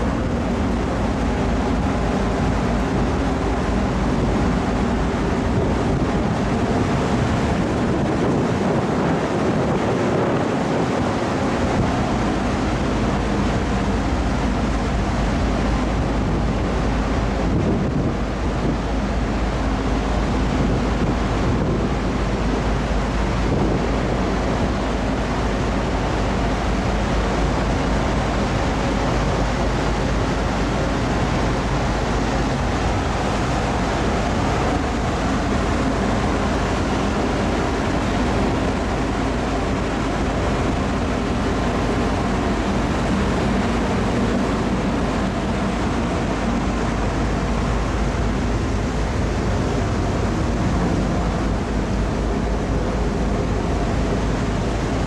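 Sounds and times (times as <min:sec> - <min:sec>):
sea noise: 0:00.0 - 0:55.0
ship engines droning: 0:00.0 - 0:55.0
wind on microphone: 0:00.0 - 0:55.0.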